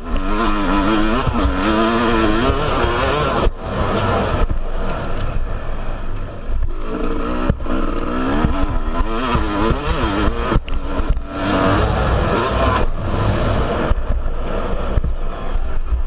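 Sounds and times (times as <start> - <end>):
motocross engine revving: 0.0 - 16.0.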